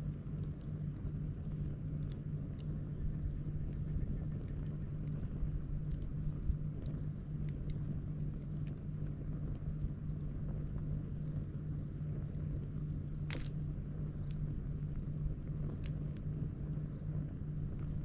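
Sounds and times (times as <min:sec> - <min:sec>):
campfire crackling and popping: 0:00.0 - 0:18.0
low hum and rumble: 0:00.0 - 0:18.0.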